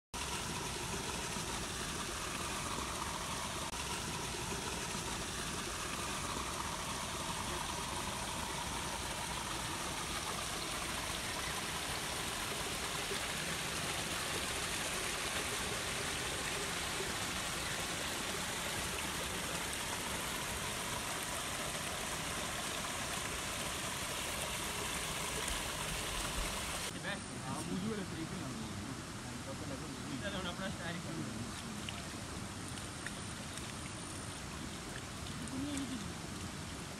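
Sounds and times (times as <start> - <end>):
flowing water rushing: 0.2 - 36.9.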